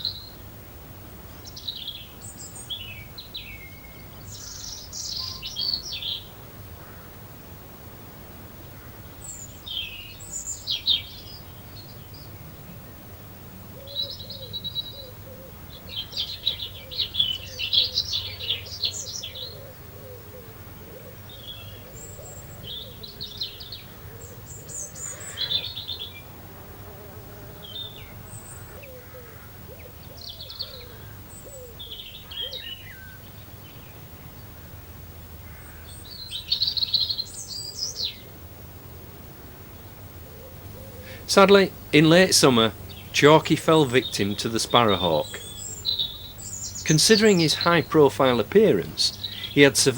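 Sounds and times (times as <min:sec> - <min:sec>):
small birds chirping: 0:00.0 - 0:07.3, 0:08.3 - 0:49.9.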